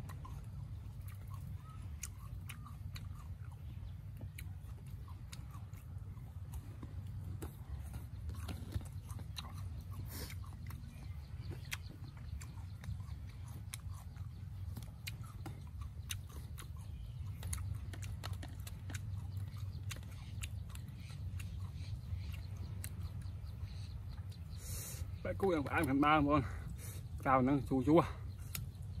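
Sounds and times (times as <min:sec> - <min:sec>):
person chewing crunchy fruit: 0:00.0 - 0:29.0
steady low rumble: 0:00.0 - 0:29.0.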